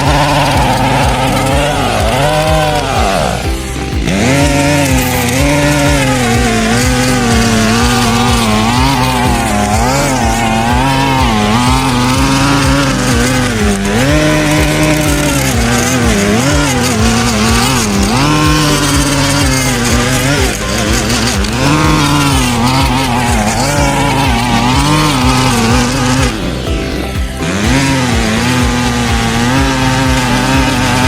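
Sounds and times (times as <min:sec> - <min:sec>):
small petrol mower engine running: 0:00.0 - 0:31.0.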